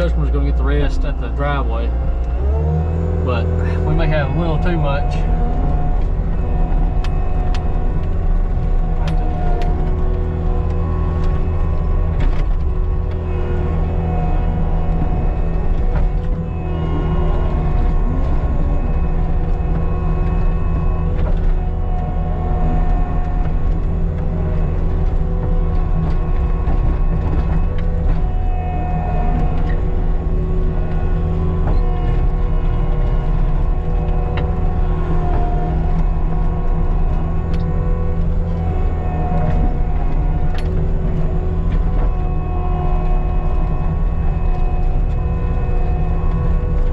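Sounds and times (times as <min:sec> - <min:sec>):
diesel engine running: 0:00.0 - 0:46.9
steady whine: 0:00.0 - 0:46.9.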